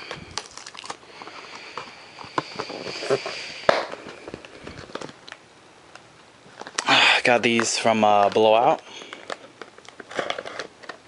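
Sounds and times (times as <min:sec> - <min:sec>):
padded mailer rustling and crackling: 0:00.0 - 0:05.4, 0:06.5 - 0:11.0.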